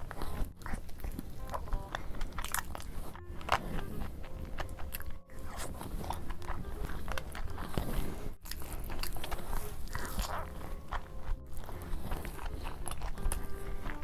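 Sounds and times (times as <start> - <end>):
crunchy chewing: 0.0 - 14.0
wet mouth clicks: 0.0 - 14.0.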